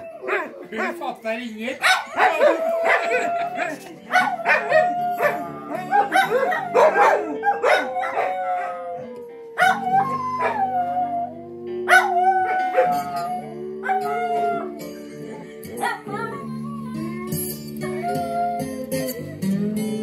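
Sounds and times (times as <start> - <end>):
dogs howling: 0.0 - 1.1, 1.8 - 19.5
blues song from laptop: 1.9 - 20.0.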